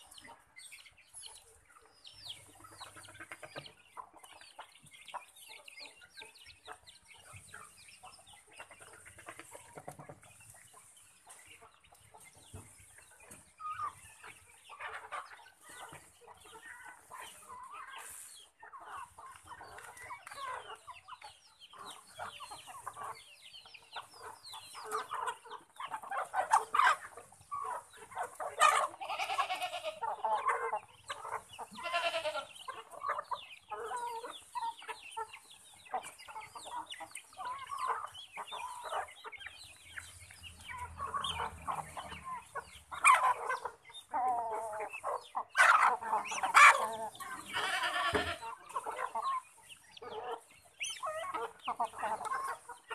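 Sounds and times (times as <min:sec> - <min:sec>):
chickens clucking and calling: 0:00.0 - 0:52.9.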